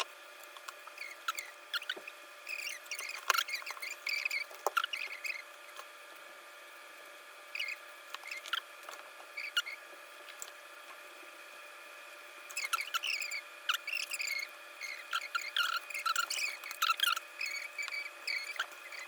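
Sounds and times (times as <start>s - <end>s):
small squeaky whirs: 0.0s - 19.0s.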